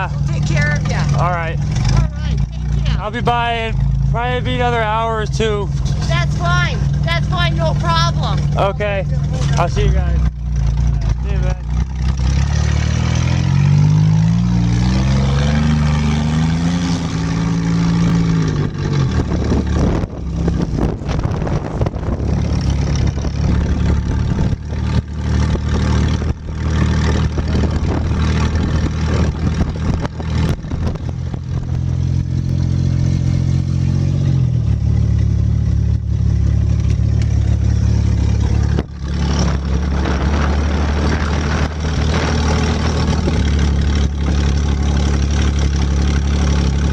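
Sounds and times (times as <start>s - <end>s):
vehicle engine revving and idling: 0.0s - 46.9s.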